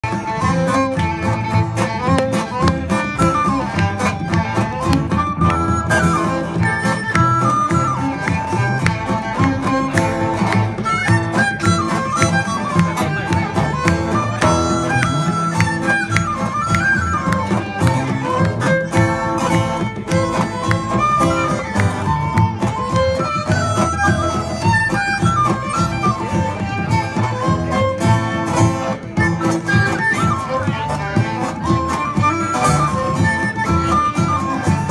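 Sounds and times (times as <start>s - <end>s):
acoustic guitars: 0.0s - 34.9s
bodhran beat: 0.0s - 34.9s
fiddle melody: 0.0s - 34.9s
upright bass: 0.0s - 34.9s.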